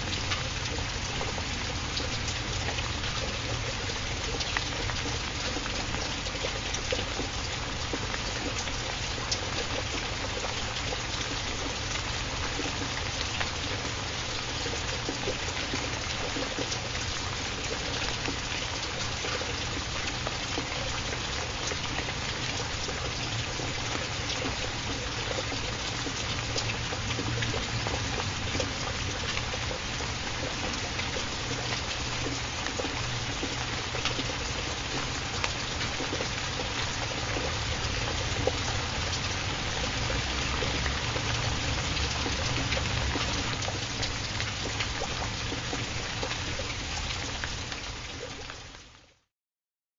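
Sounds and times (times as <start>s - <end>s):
raindrop ticks: 0.0s - 49.0s
rain hiss: 0.0s - 49.2s.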